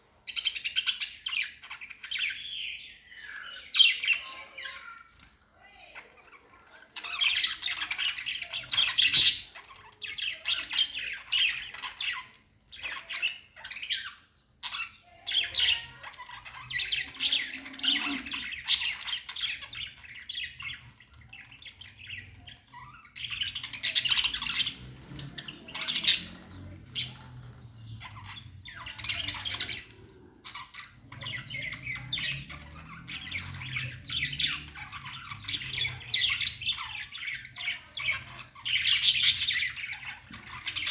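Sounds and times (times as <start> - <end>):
parrots chattering and squawking: 0.0 - 40.9.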